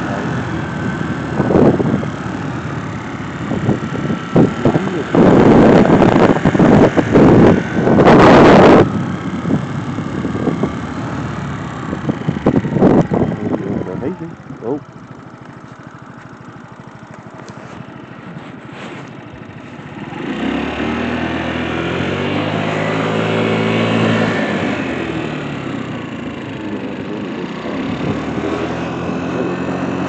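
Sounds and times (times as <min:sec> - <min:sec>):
motor vehicle engine: 0:00.0 - 0:30.0.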